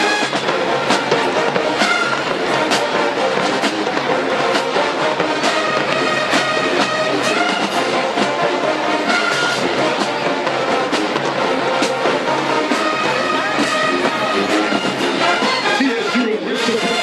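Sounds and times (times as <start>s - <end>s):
drumline percussion: 0.0s - 17.0s
marching band brass: 0.0s - 17.0s.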